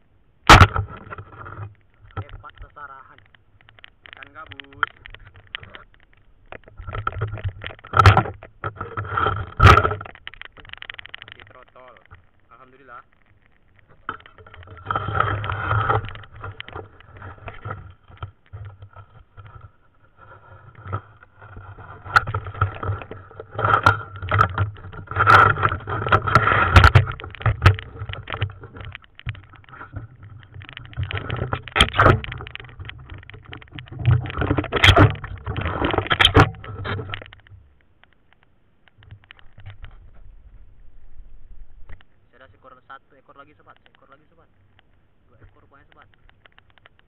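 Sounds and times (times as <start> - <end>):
sharp clicks: 0.4 - 19.7, 20.8 - 39.9, 41.9 - 47.0
muffled underwater knocks and scrapes: 0.5 - 12.3, 13.5 - 42.6.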